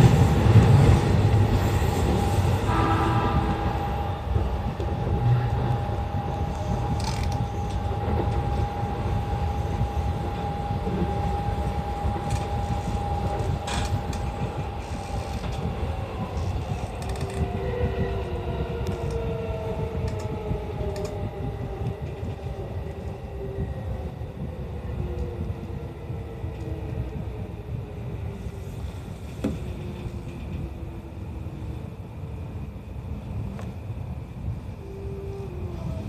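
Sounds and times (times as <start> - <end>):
train running on rails: 0.0 - 36.0.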